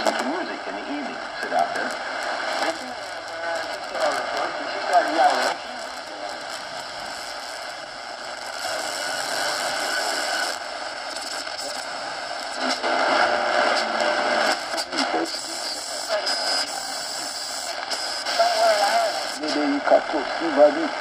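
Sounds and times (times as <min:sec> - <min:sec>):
radio static between stations: 0:00.0 - 0:21.0.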